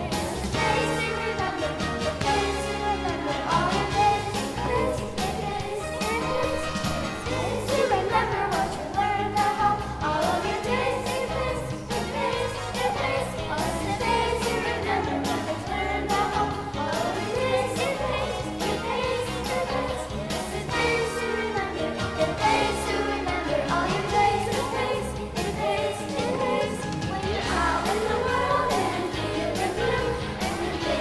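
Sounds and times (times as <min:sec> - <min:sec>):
bass line: 0:00.0 - 0:31.0
singers with instrumental accompaniment: 0:00.0 - 0:31.0.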